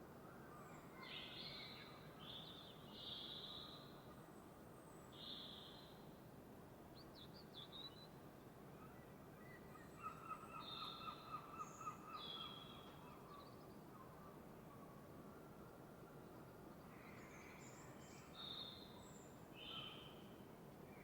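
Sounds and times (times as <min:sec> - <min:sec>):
soft steady hiss: 0:00.0 - 0:21.0.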